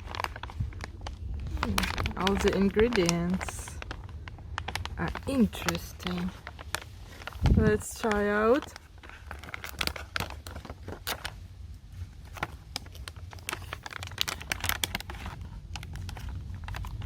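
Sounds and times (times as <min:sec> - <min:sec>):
low steady hum: 0:00.0 - 0:17.0
plastic packaging crinkling: 0:00.0 - 0:17.0.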